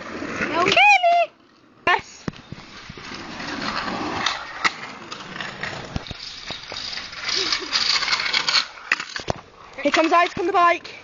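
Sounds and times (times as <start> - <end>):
scooter wheels rolling on tarmac: 0.0 - 11.0.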